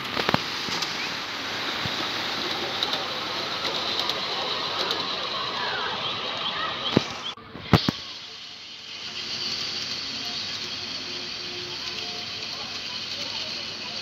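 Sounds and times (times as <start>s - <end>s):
model train running: 0.0s - 14.0s.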